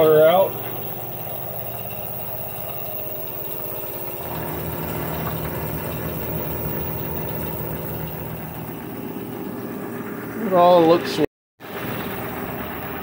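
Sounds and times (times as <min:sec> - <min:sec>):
washing machine spinning hum: 0:00.0 - 0:13.0.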